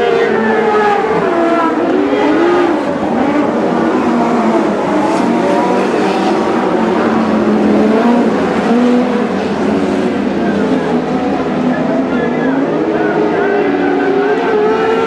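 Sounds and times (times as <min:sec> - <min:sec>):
racing car engines: 0:00.0 - 0:15.0.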